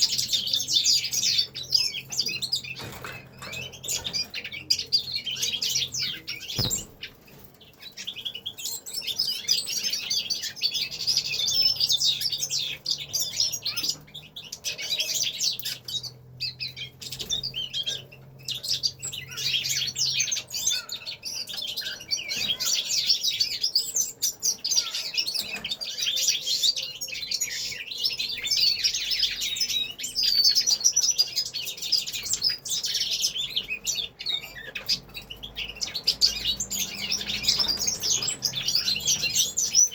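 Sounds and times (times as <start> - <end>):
finches chirping and trilling: 0.0 - 39.9.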